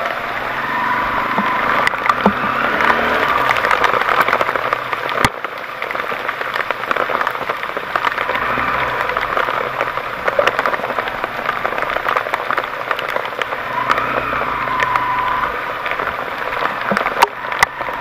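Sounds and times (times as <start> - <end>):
rain pattering: 0.0 - 18.0
sharp crack: 1.2 - 18.0.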